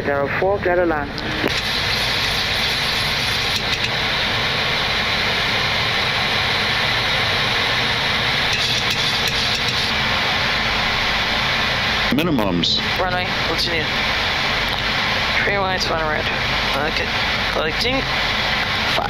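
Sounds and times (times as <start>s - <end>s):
aircraft engine noise: 0.6s - 19.0s
cockpit airflow rush: 1.2s - 12.1s, 12.7s - 19.0s.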